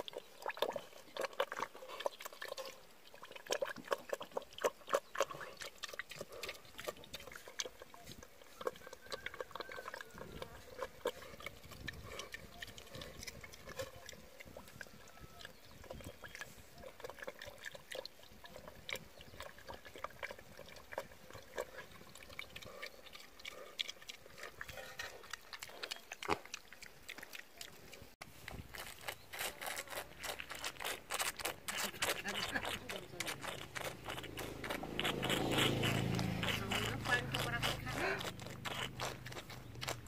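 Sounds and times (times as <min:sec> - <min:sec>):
pig slurping and chomping: 0:00.0 - 0:40.0.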